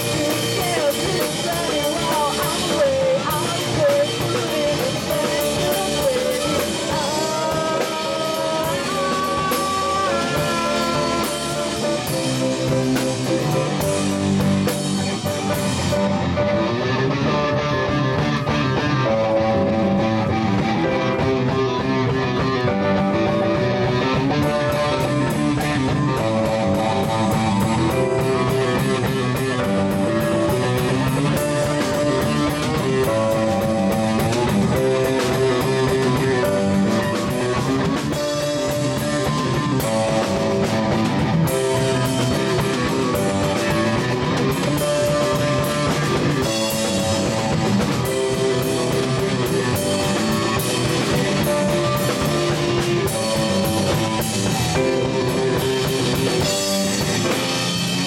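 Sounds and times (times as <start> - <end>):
bass guitar: 0.0 - 58.0
drum kit: 0.0 - 58.0
electric guitar: 0.0 - 58.0
keyboard: 0.0 - 58.0.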